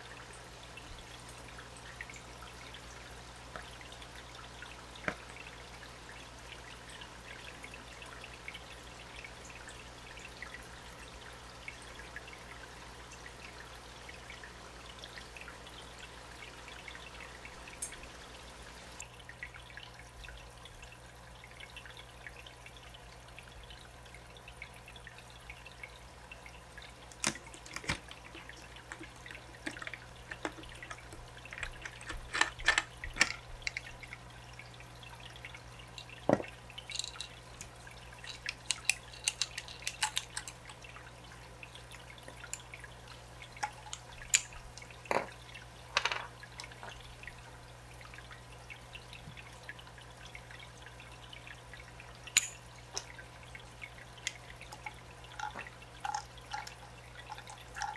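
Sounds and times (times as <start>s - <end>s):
water trickling into a tank: 0.0s - 57.9s.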